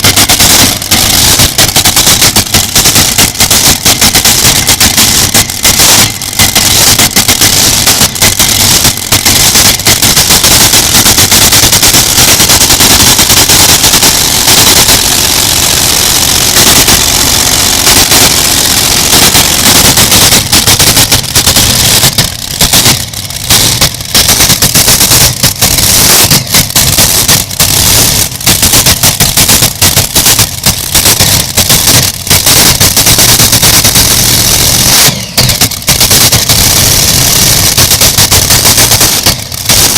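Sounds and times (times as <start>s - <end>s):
tractor engine running flat out: 0.0s - 39.9s.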